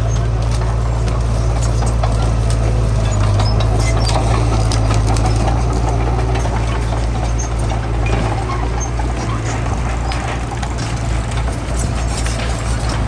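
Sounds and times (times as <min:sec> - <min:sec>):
heavy diesel engine humming: 0:00.0 - 0:13.0
light clanks: 0:00.0 - 0:13.0.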